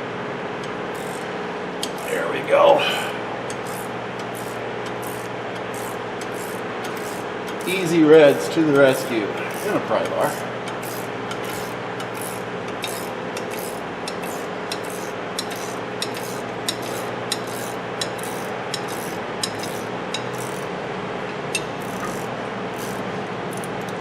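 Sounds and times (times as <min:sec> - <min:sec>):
steady mechanical hum: 0:00.0 - 0:24.0
wrench rasping on rusted fastener: 0:01.0 - 0:02.2, 0:03.5 - 0:20.7, 0:21.6 - 0:24.0.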